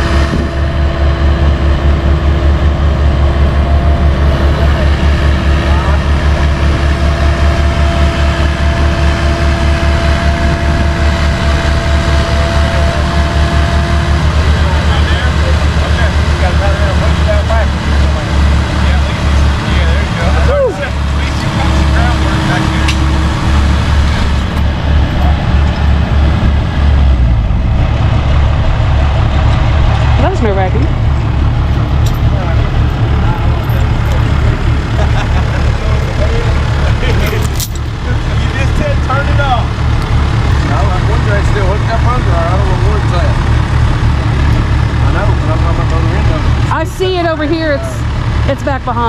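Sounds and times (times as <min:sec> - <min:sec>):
heavy diesel engine running: 0:00.0 - 0:49.0
steady whine: 0:00.0 - 0:49.0.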